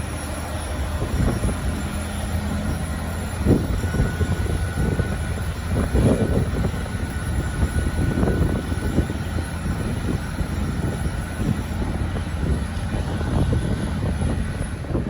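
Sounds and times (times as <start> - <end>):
faint high whine: 0.0 - 15.0
jet engines rumbling: 0.0 - 15.0.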